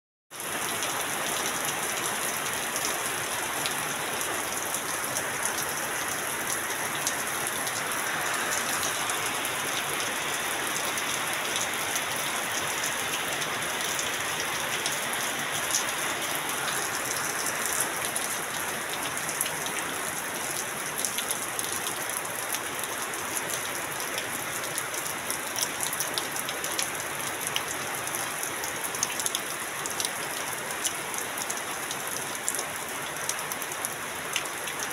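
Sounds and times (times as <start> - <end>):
heavy rain on metal roof: 0.3 - 34.9.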